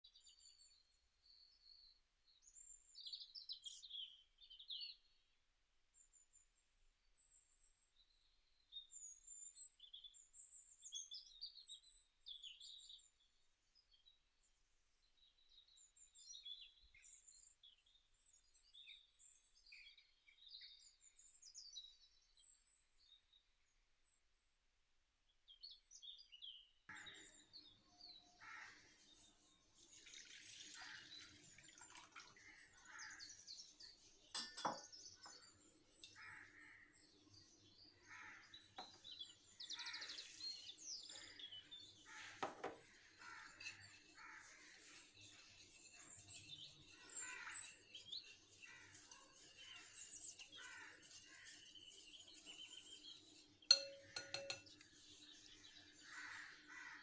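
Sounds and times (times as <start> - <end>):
small birds chirping: 7.1 - 24.0, 25.4 - 57.0.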